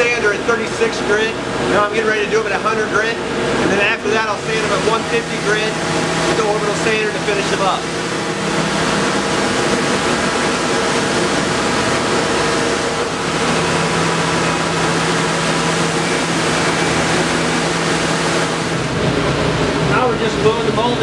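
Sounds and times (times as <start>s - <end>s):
belt sander rushing noise: 0.0s - 19.4s
low even hum: 0.0s - 21.0s.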